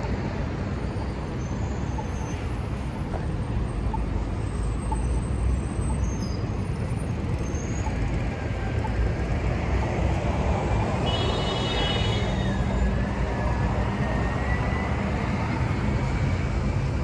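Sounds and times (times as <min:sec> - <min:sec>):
city traffic noise: 0:00.0 - 0:17.0.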